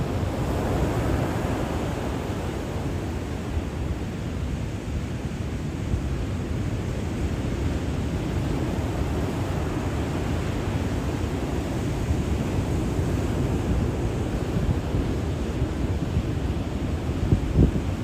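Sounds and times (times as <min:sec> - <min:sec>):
ocean waves crashing: 0:00.0 - 0:18.0.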